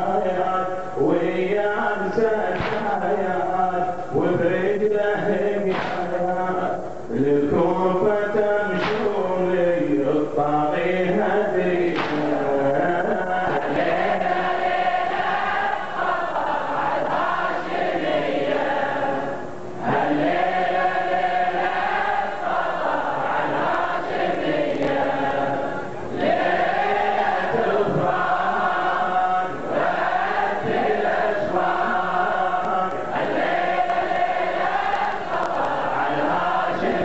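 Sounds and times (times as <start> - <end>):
men chanting a lament: 0.0 - 37.0.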